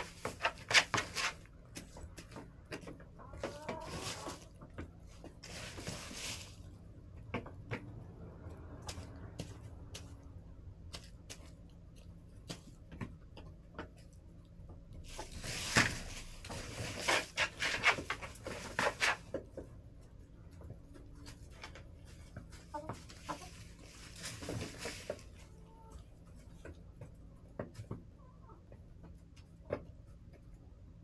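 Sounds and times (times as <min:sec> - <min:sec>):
hens pecking taps: 0:00.0 - 0:06.0, 0:06.9 - 0:15.3, 0:16.5 - 0:30.8
hens scratching rustling: 0:00.0 - 0:14.1, 0:14.8 - 0:30.6.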